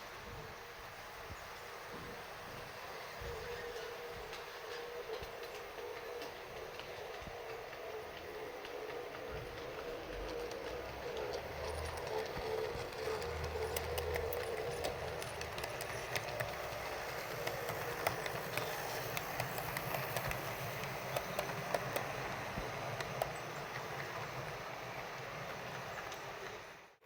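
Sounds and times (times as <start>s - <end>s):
model train motor hum: 0.0s - 27.0s
wheels clicking on rail joints: 0.2s - 27.0s.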